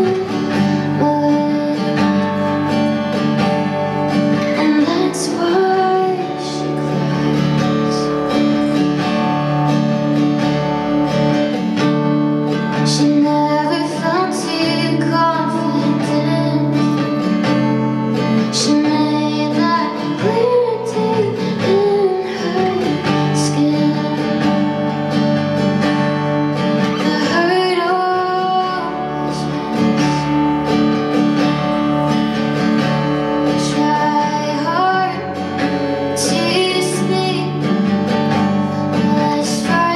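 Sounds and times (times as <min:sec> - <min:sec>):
woman singing: 0:00.0 - 0:09.6, 0:12.4 - 0:39.9
acoustic guitar strumming: 0:00.0 - 0:39.9.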